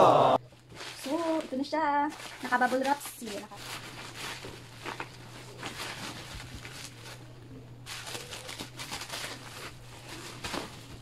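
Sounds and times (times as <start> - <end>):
bubble wrap crinkling: 0.4 - 11.0.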